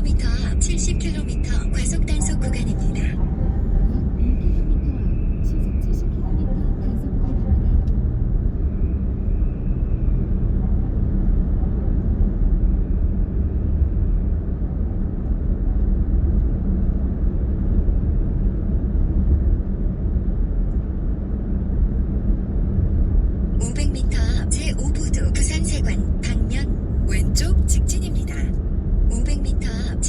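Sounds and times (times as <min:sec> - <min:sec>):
car cabin road and engine rumble: 0:00.0 - 0:30.0.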